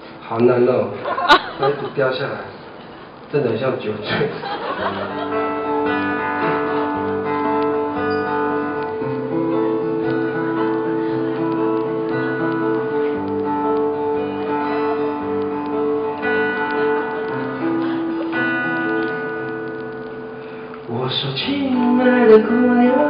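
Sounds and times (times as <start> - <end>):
acoustic guitar playing: 4.5 - 23.0.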